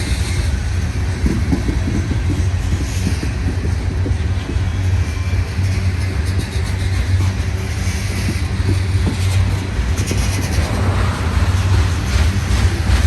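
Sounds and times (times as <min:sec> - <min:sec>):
train rolling past: 0:00.0 - 0:13.0.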